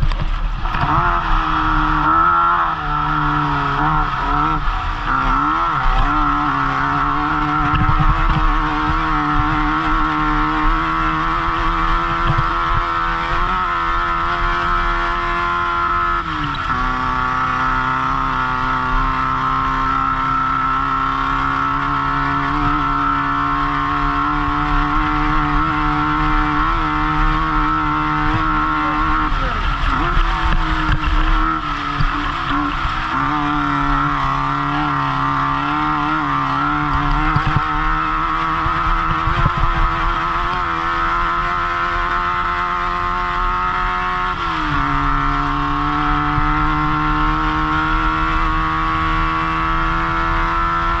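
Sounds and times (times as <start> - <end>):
race car engine under load: 0.0 - 51.0.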